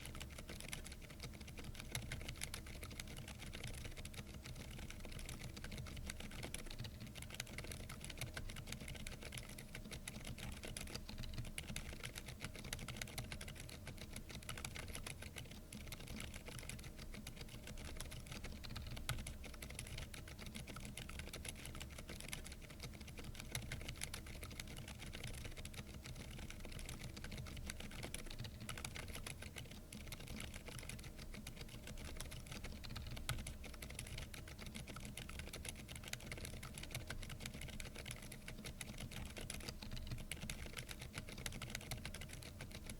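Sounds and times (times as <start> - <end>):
fast typing on mechanical keyboard: 0.0 - 42.9.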